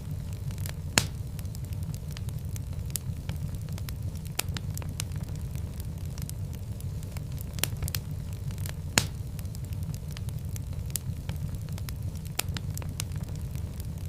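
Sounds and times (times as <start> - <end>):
fire pops and snaps: 0.0 - 14.0
low fire rumble: 0.0 - 14.0.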